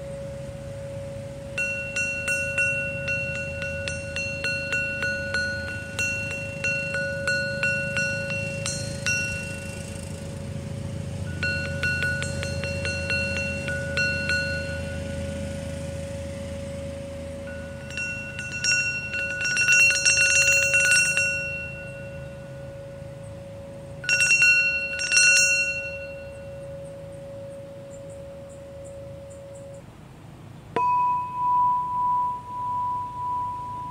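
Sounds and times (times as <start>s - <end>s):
bright high ringing overtones: 0.0s - 29.9s, 30.8s - 33.9s
chime tube low ringing tone: 0.0s - 29.9s, 30.7s - 33.9s
mallet tapping metal chime tube: 0.0s - 29.9s, 30.7s - 33.9s.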